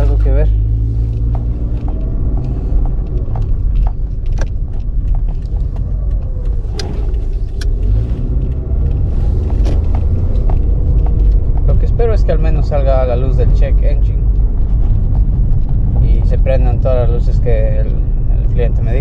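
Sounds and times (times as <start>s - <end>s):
engine and road rumble: 0.0s - 19.0s
light clicks and rattles: 1.0s - 19.0s.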